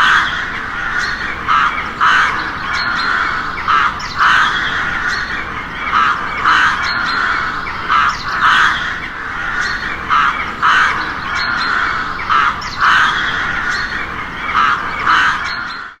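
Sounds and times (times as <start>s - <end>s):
crow cawing: 0.0s - 16.0s.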